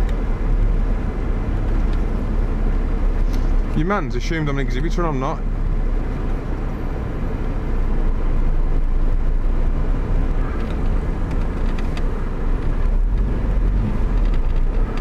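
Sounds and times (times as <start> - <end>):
car engine running: 0.0 - 15.0
road noise rumble: 0.0 - 15.0.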